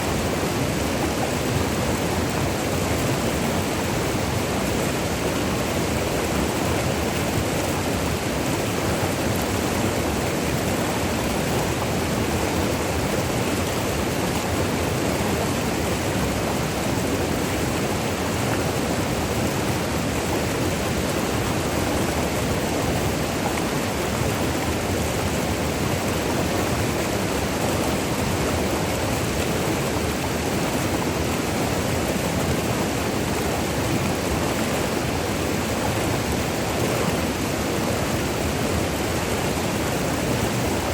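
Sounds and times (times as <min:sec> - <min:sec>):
river water rushing over rapids: 0:00.0 - 0:40.9.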